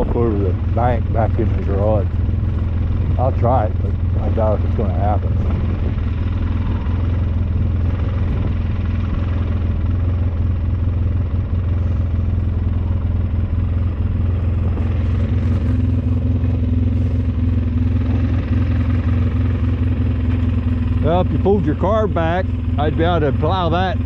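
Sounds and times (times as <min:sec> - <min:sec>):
higher engine hum: 0:00.0 - 0:24.0
snowplow engine running: 0:00.0 - 0:24.0.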